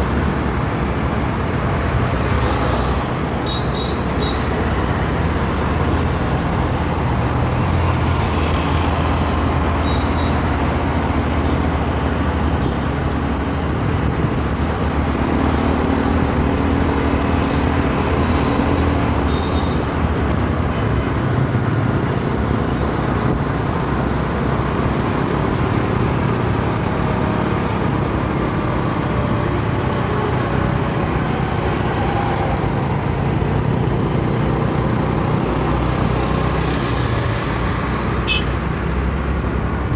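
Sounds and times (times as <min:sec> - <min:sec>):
road traffic roar: 0:00.0 - 0:39.9.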